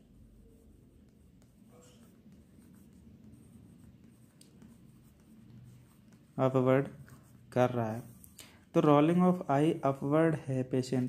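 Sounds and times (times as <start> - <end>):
low room hum: 0.0 - 11.0
pencil scratching on paper: 0.0 - 11.0.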